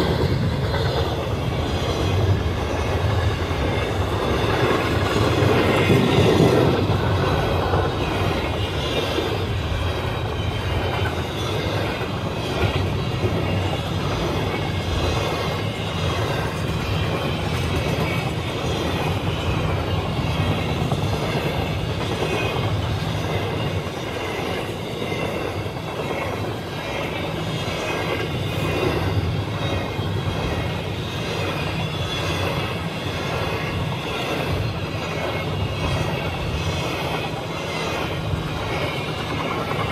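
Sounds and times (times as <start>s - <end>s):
train cars rumbling past: 0.0s - 39.9s.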